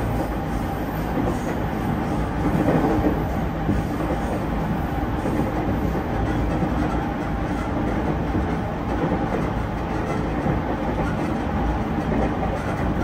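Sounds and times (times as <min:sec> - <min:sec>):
train interior wheels rumbling: 0:00.0 - 0:13.0.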